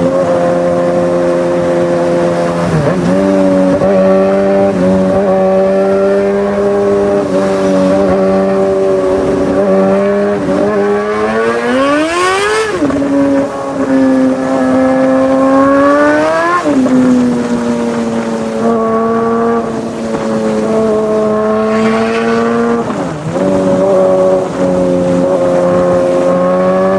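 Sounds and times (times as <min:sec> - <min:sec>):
superbike engine at high revs: 0:00.0 - 0:26.9.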